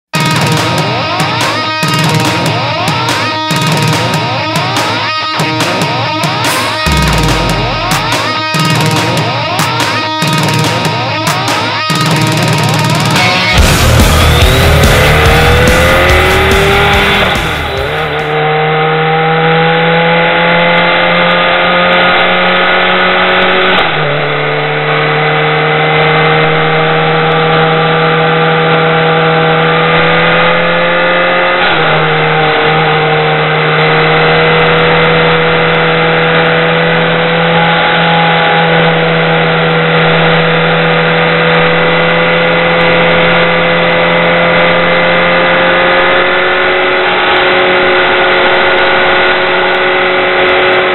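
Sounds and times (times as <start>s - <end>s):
motorcycle engine accelerating: 0.0s - 50.9s
road and wind noise: 0.1s - 50.9s.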